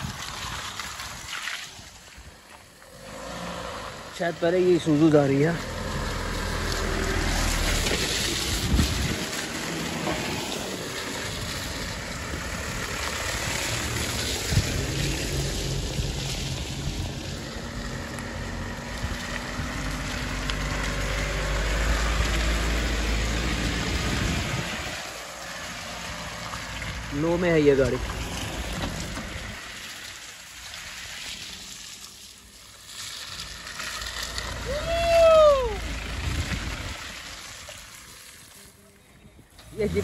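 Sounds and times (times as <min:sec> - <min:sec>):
off-road vehicle engine under load: 0:02.2 - 0:40.0.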